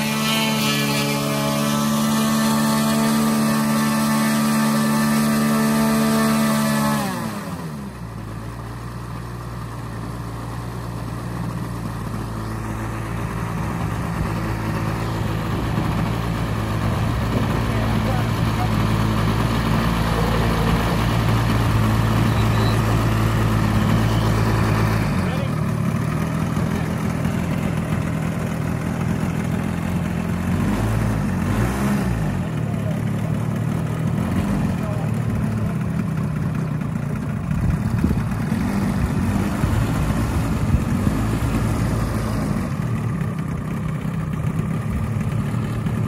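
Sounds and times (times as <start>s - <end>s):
model plane engine idling: 0.0s - 46.0s.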